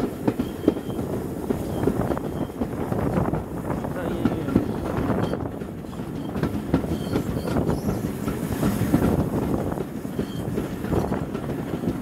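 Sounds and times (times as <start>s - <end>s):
train rumbling: 0.0s - 12.0s
wind buffeting microphone: 0.0s - 12.0s.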